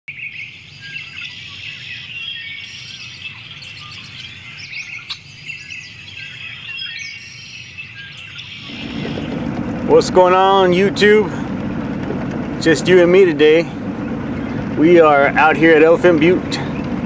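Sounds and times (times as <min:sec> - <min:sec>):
birds chirping and calling: 0:00.1 - 0:17.0.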